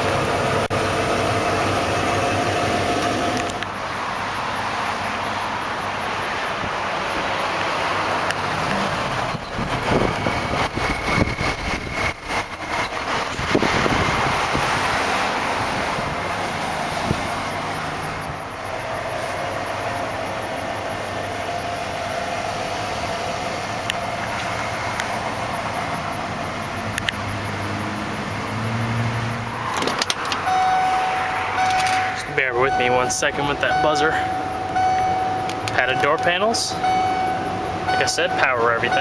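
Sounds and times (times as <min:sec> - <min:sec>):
highway traffic noise: 0:00.0 - 0:39.0
vehicle passing: 0:00.0 - 0:39.0.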